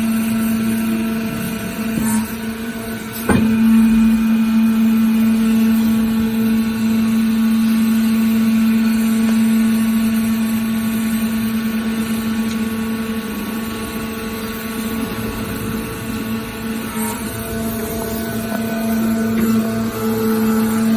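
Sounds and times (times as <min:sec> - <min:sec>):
hydraulic power unit droning: 0:00.0 - 0:20.9.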